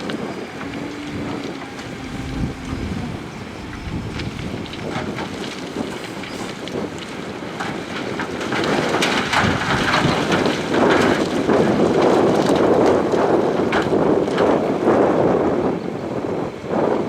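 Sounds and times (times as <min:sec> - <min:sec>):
gravel clattering and grinding: 0:00.0 - 0:15.5
wind noise on microphone: 0:00.0 - 0:17.0.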